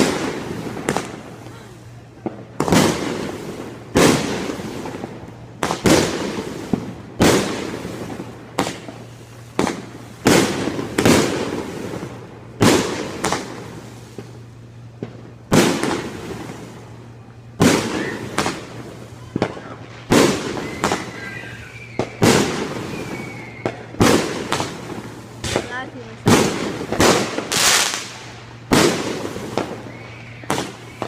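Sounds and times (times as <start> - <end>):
firework bangs: 0.0 - 31.0.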